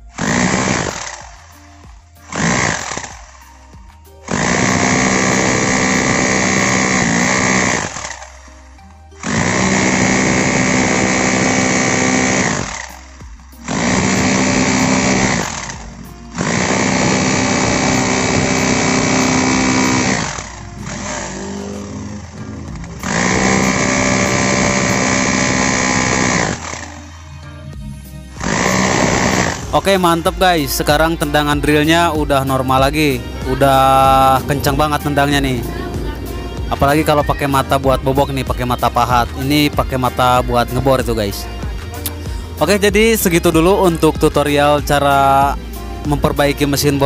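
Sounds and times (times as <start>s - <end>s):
hammer drill drilling into concrete: 0.0s - 3.5s, 4.2s - 8.4s, 9.2s - 27.2s, 28.3s - 40.9s.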